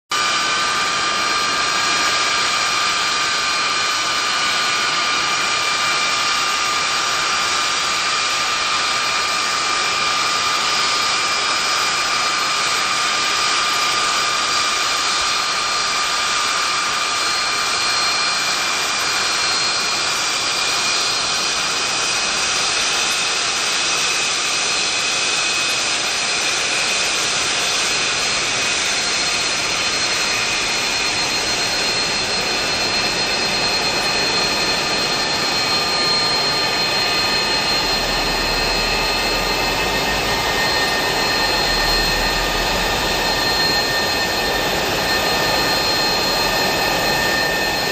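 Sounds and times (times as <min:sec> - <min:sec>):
jet engines running: 0:00.1 - 0:47.9.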